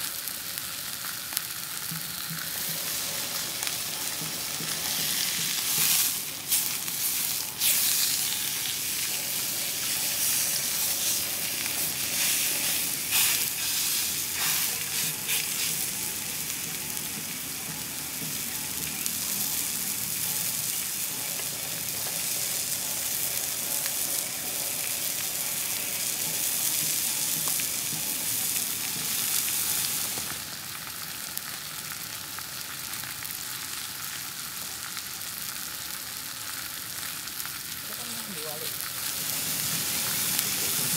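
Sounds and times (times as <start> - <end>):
steak sizzling in frying pan: 0.0 - 40.9.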